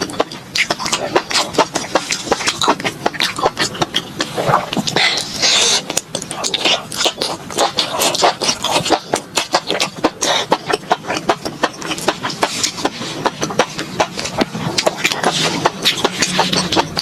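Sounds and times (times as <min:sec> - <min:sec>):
chewing crunches: 0:00.0 - 0:17.0
wet mouth clicks: 0:00.0 - 0:17.0.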